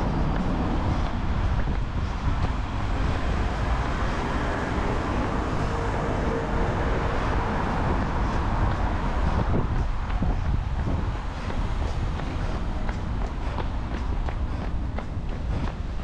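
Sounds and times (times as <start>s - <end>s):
city traffic noise: 0.0s - 16.0s
wind rumbling on microphone: 0.0s - 16.0s.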